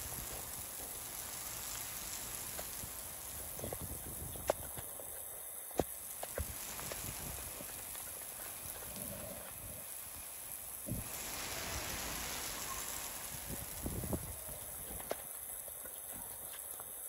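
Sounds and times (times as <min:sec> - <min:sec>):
rain hissing on a platform: 0:00.0 - 0:17.0.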